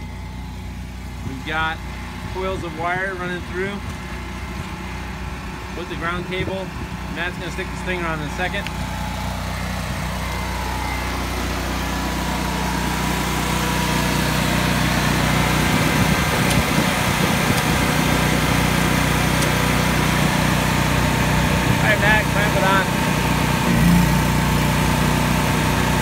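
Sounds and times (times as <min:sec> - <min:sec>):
welder generator engine running: 0:00.0 - 0:26.0.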